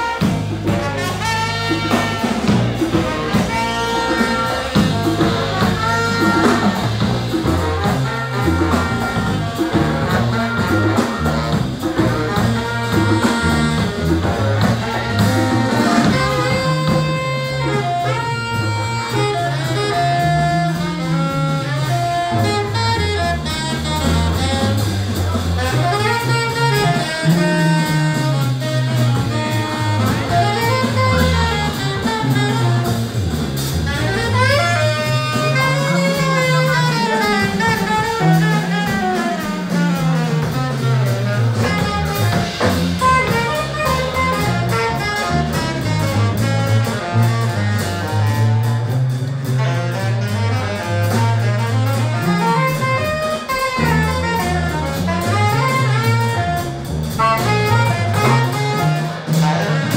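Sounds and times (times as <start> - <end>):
latin jazz brass band playing: 0.0 - 59.9
sliding saxophone notes: 0.0 - 59.9.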